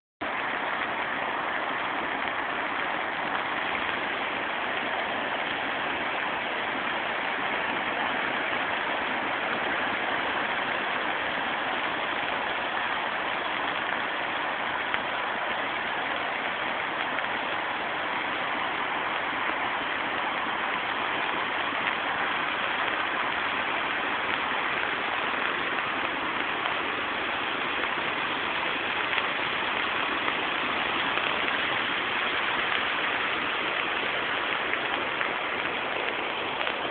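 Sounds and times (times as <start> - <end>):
floodwater rushing: 0.2 - 36.9.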